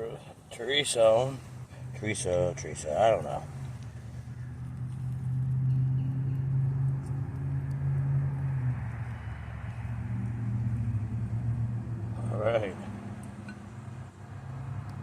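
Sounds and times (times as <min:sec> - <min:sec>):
motor engine droning: 0:00.9 - 0:15.0.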